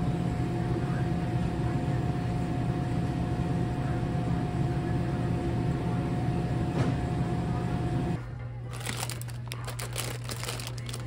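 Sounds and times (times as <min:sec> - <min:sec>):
refrigerated display cases humming: 0:00.0 - 0:11.0.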